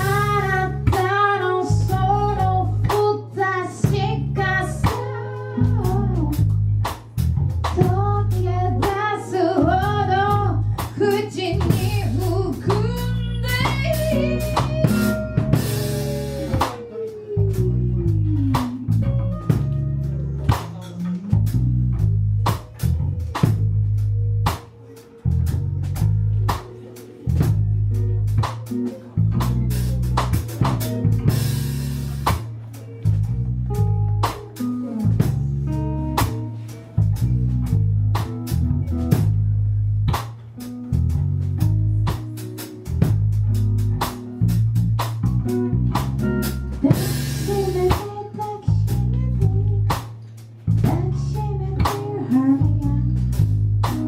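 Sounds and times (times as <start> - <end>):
band music: 0.0 - 54.0
bass guitar: 0.0 - 54.0
guitar: 0.0 - 54.0.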